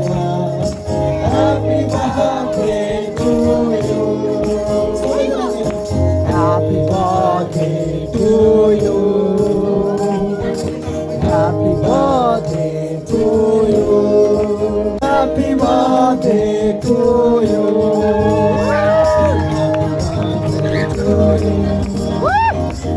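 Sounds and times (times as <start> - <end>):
guitar and keyboard accompaniment: 0.0 - 22.9
man singing into a microphone: 0.0 - 22.9.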